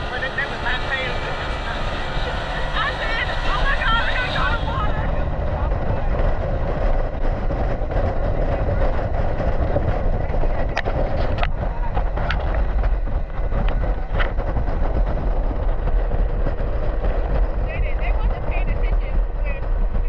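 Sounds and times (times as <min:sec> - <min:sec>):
motorboat engine rumble: 0:00.0 - 0:20.0
wind and water noise: 0:00.0 - 0:20.0.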